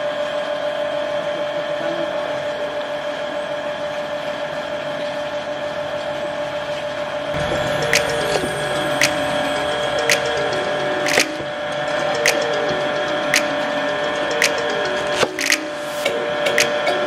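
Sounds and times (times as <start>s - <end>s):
mechanical hum with whine: 0.0s - 17.0s.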